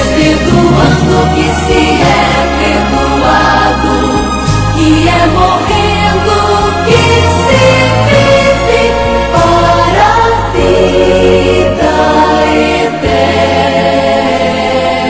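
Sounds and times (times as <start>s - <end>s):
choir singing held chords: 0.0s - 15.0s
deep low accompaniment: 0.0s - 15.0s.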